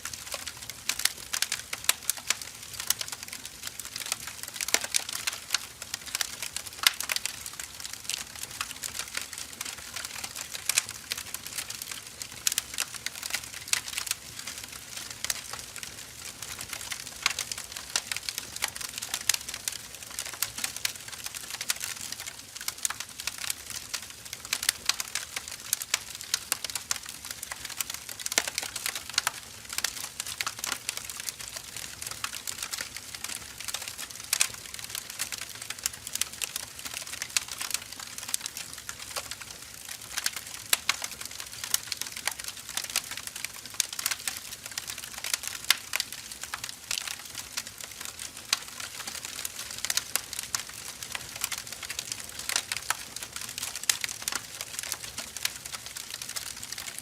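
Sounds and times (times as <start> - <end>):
firewood crackling and popping: 0.0 - 57.0.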